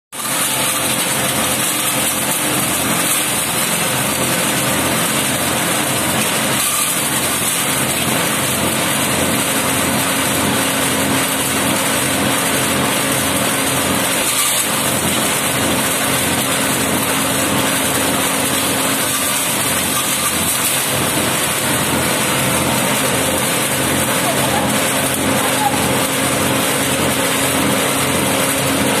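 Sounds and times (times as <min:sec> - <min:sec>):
shredder petrol engine running: 0:00.1 - 0:29.0.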